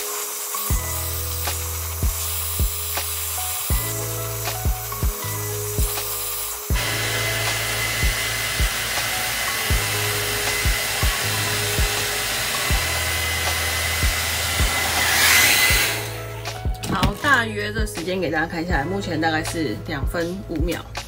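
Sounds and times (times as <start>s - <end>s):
hair dryer blowing: 0.0s - 17.2s
background music with beat: 0.0s - 21.0s.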